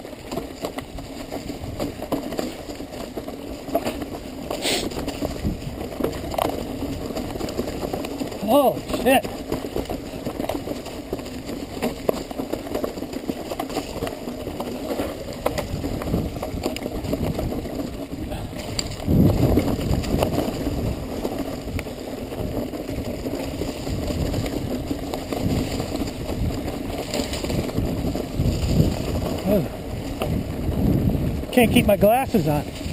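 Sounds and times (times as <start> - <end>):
bike rattling and knocking: 0.0 - 32.9
bike tyres rumbling over rocks: 0.0 - 32.9.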